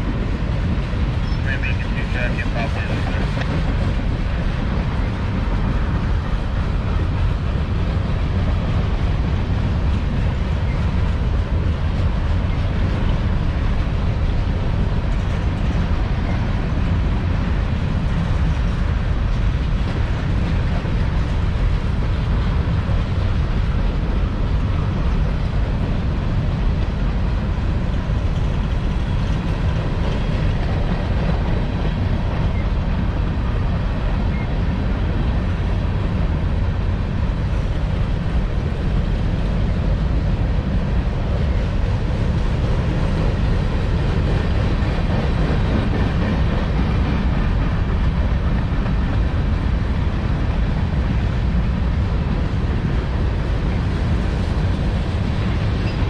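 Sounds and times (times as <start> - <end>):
train wheels on track: 0.0 - 56.0.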